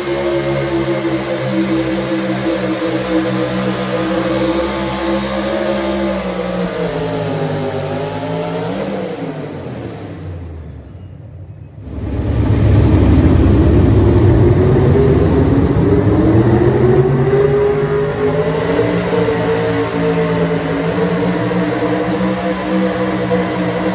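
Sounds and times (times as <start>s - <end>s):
engine climbing in pitch: 0.0s - 23.9s
truck engine running hard: 0.0s - 23.9s.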